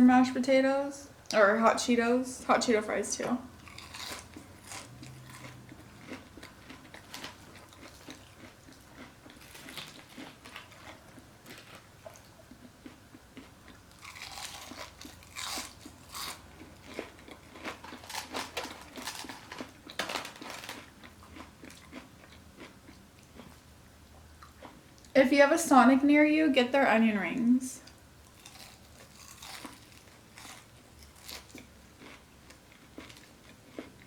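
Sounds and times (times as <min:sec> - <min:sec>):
crunchy chewing: 0:03.6 - 0:25.1, 0:27.9 - 0:34.0.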